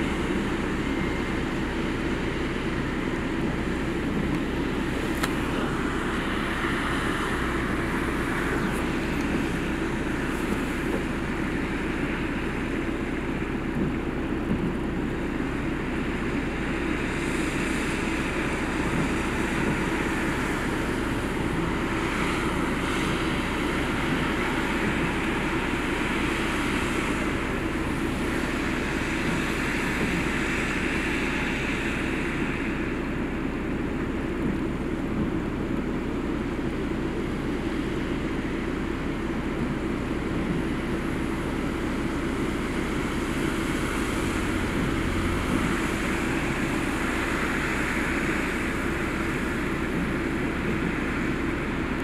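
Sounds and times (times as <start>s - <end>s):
steady rushing noise: 0.0s - 52.0s.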